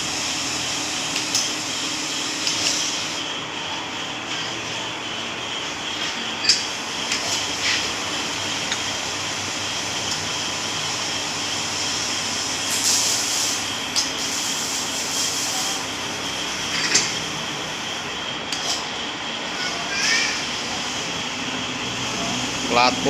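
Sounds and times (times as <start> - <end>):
plate rolling machine running: 0.0 - 23.0.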